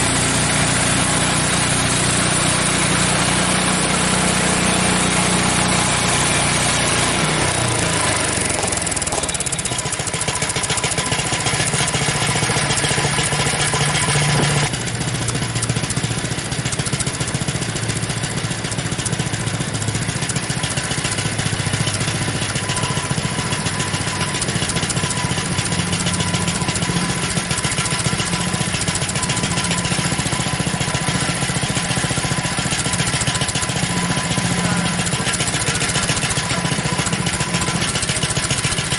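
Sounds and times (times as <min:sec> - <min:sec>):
bandsaw sawmill cutting log: 0:00.0 - 0:38.9
gas engine running: 0:00.0 - 0:38.9.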